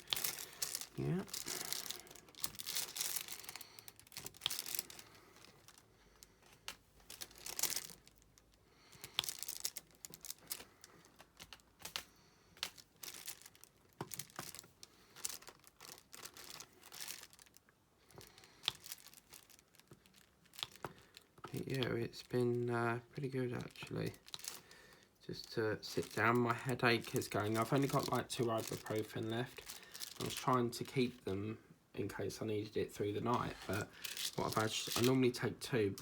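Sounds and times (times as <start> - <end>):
plastic crinkling: 0.0 - 31.4, 32.7 - 36.0.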